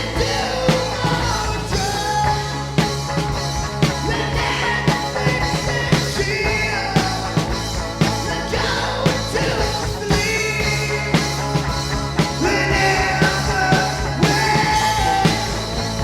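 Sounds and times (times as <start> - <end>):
drums beating: 0.0 - 16.0
rock band playing: 0.0 - 16.0.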